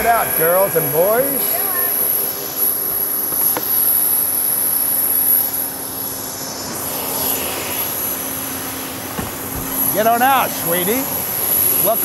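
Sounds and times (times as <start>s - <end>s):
jet engine whine: 0.0s - 12.0s.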